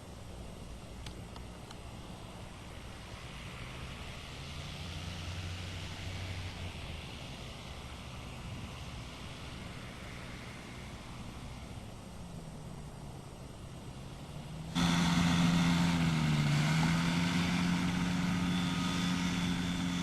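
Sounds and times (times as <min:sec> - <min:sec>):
propeller aircraft droning overhead: 0:00.0 - 0:20.0.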